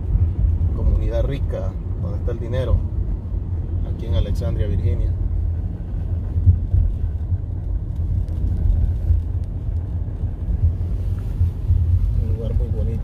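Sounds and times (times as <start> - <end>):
car driving rumble from inside: 0.0 - 13.0.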